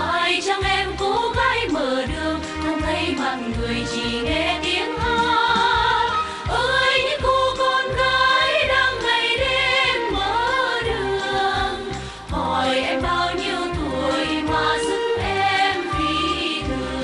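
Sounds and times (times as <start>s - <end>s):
women singing in harmony: 0.0s - 17.0s.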